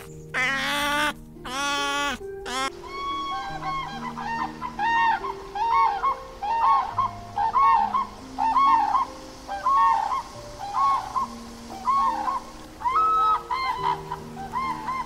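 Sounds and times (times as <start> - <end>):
background music with low notes: 0.0 - 15.0
crane calling: 0.0 - 15.0.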